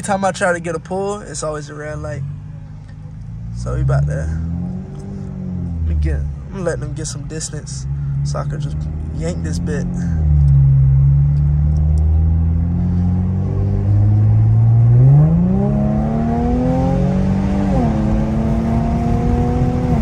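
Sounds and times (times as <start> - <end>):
car engine accelerating hard: 3.2 - 20.0.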